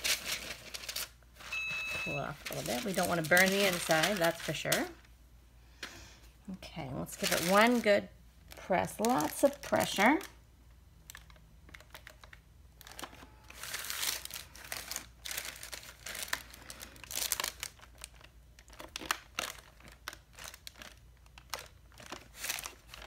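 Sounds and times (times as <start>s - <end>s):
paper and fabric crinkling: 0.0s - 5.0s, 7.0s - 10.4s, 11.1s - 23.0s.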